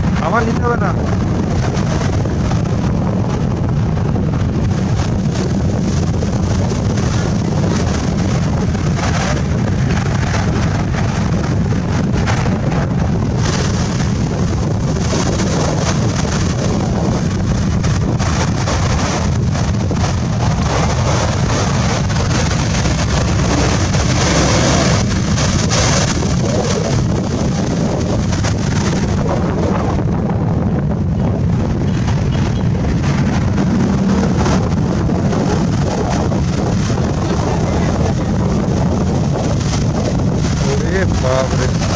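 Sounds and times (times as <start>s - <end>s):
rough sea breaking: 0.0s - 41.9s
wind buffeting microphone: 0.0s - 41.9s.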